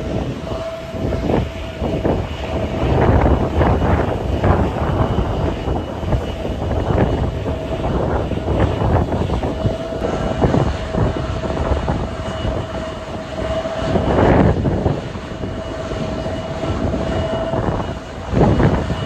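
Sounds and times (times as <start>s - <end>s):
jet engines whining: 0.0s - 19.0s
wind buffeting microphone: 0.0s - 19.0s.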